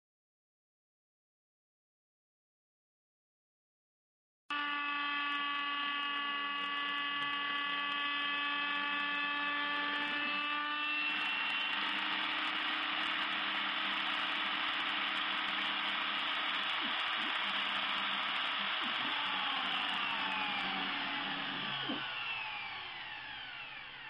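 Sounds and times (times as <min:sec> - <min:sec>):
milling machine spindle whine: 0:04.5 - 0:24.0.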